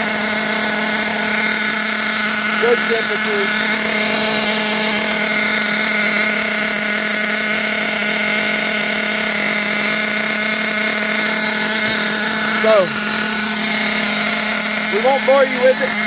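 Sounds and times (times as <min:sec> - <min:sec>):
nitro engine buzzing: 0:00.0 - 0:16.0.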